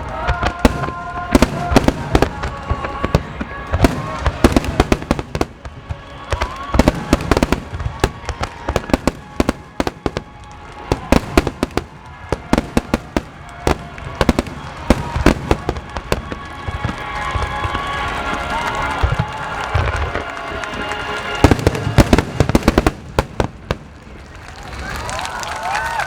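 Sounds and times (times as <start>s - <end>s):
fireworks bursting with bangs: 0.0s - 25.4s.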